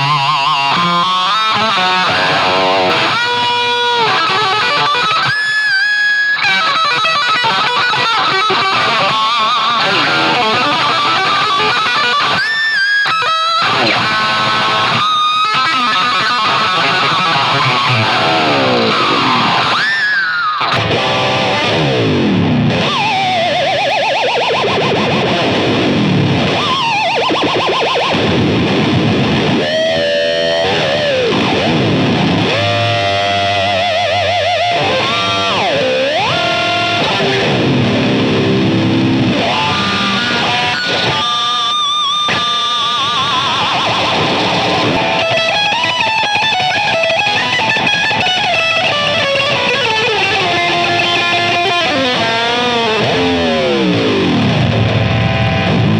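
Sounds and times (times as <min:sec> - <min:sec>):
distorted electric guitar dives: 0:00.0 - 0:55.9.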